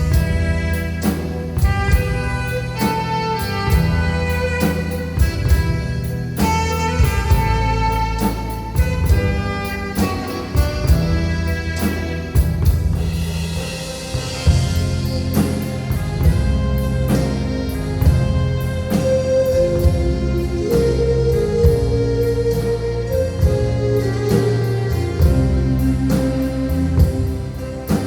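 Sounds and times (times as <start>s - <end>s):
alto saxophone melody: 0.0s - 28.0s
drum kit beat: 0.0s - 28.0s
keyboard: 0.0s - 28.0s.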